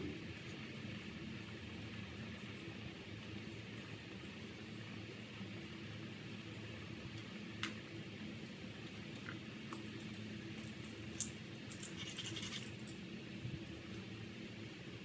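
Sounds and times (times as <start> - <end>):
water boiling and bubbling: 0.0 - 15.0.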